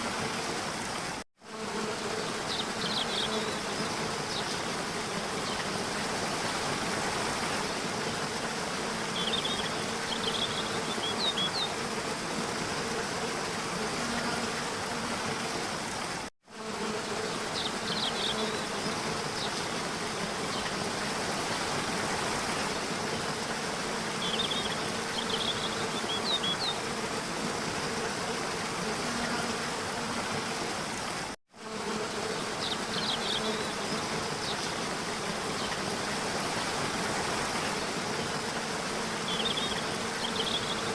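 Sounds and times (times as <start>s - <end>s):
insects buzzing: 0.0s - 40.9s.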